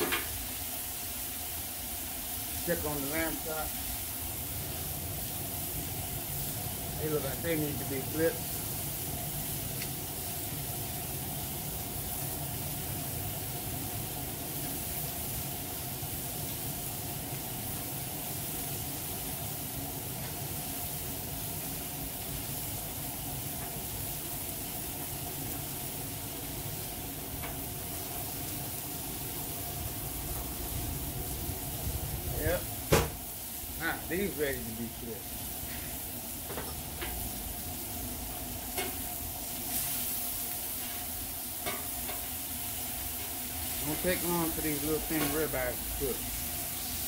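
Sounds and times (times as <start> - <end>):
meat sizzling on a griddle: 0.0 - 47.0.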